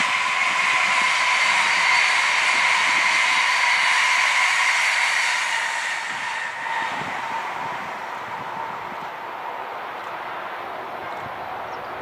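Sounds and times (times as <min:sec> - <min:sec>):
high-speed train rushing past: 0:00.0 - 0:12.0
train high whine: 0:00.0 - 0:12.0.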